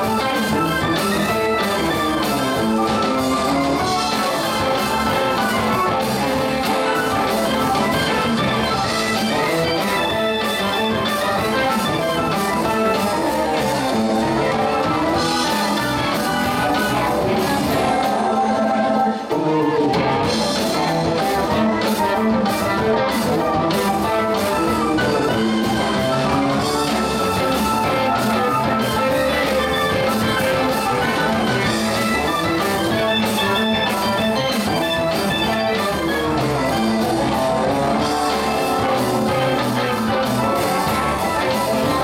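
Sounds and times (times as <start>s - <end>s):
bass guitar: 0.0s - 42.0s
drum kit: 0.0s - 42.0s
electric guitar: 0.0s - 42.0s
keyboards: 0.0s - 42.0s.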